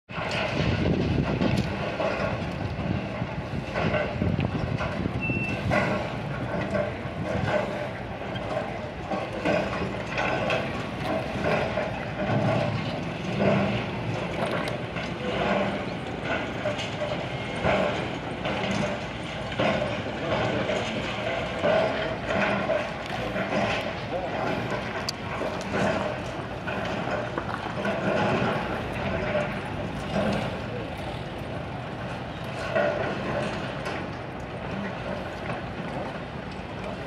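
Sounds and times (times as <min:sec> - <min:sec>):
excavator diesel engine running: 0:00.1 - 0:37.0.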